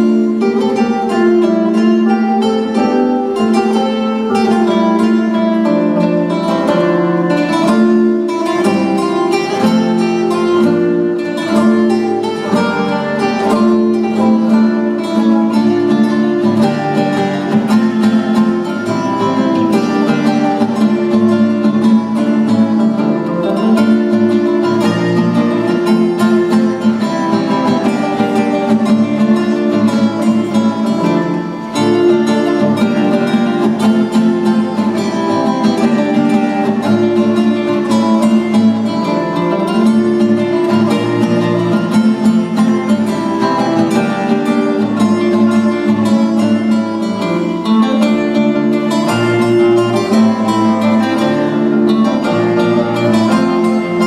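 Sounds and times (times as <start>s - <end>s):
plucked string ensemble playing: 0.0s - 54.0s.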